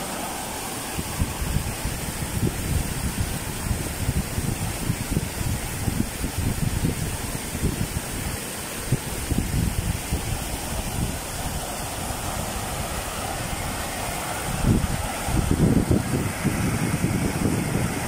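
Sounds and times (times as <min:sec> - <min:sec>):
floodwater rushing: 0:00.0 - 0:18.0
wind buffeting microphone: 0:00.8 - 0:18.0.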